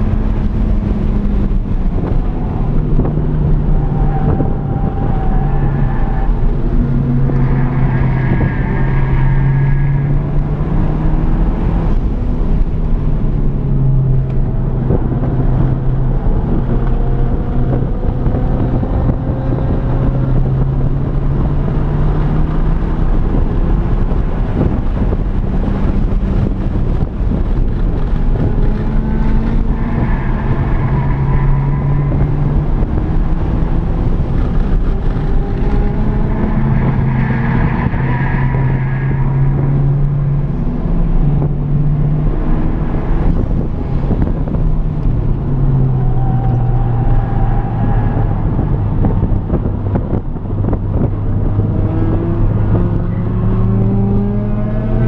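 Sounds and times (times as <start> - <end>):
car engine accelerating: 0.0 - 55.0
wind and road noise: 0.0 - 55.0.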